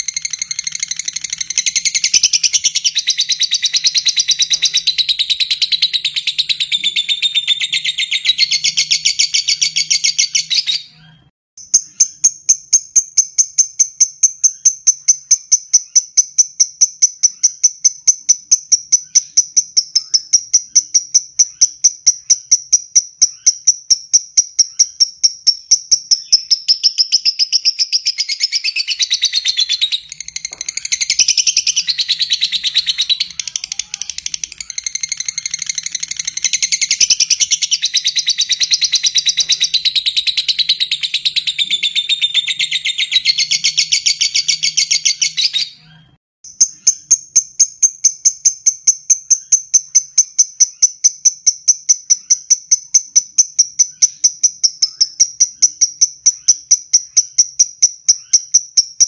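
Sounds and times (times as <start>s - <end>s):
lovebird chattering: 0.0s - 10.9s, 11.6s - 45.8s, 46.5s - 59.0s
lovebird trill: 0.0s - 45.8s, 46.5s - 59.0s.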